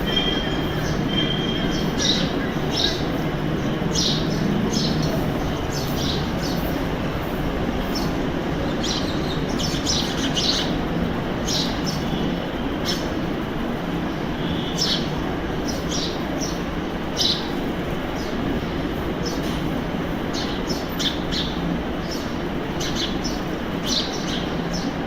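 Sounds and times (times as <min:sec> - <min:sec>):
rumbling background noise: 0:00.0 - 0:25.0
sparrows chirping: 0:00.0 - 0:25.0.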